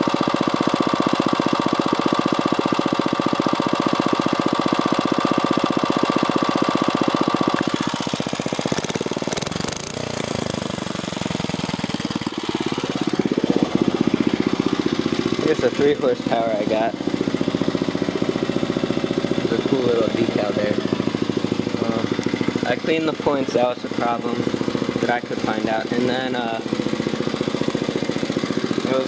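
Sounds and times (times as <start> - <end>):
small gasoline engine running: 0.0 - 29.0.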